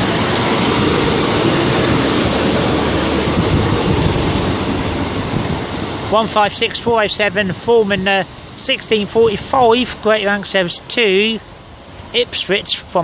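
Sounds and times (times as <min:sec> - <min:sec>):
train wheels and engine rumbling: 0:00.0 - 0:13.0.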